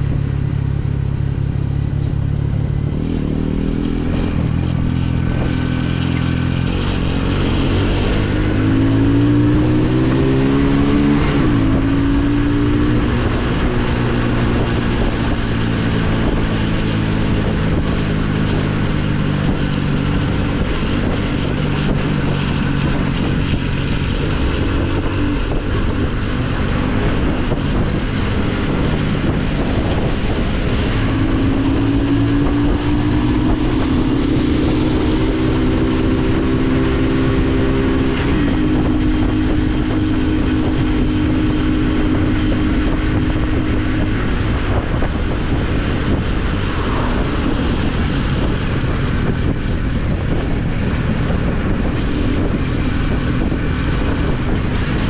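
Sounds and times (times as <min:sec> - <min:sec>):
motorcycle engine accelerating: 0:00.0 - 0:55.0
wind noise: 0:00.0 - 0:55.0.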